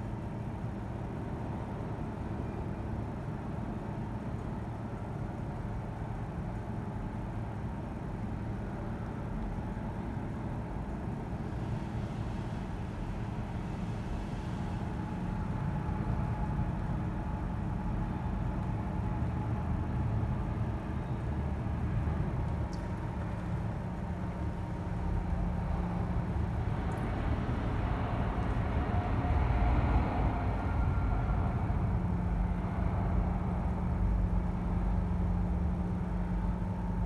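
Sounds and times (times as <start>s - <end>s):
jet engines rumbling with faint whine: 0.0s - 37.0s.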